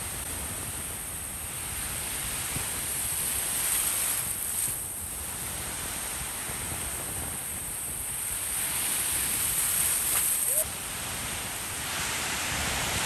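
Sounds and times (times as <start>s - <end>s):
ocean surf washing on beach: 0.0s - 13.0s
wind buffeting microphone: 0.0s - 13.0s.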